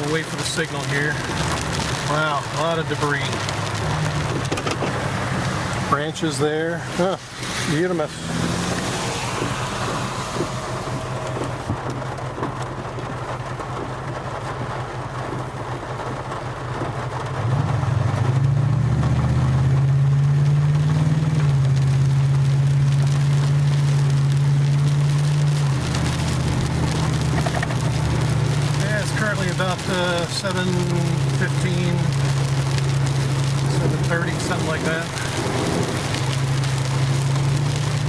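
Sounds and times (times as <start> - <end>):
truck engine idling and accelerating: 0.0 - 38.0.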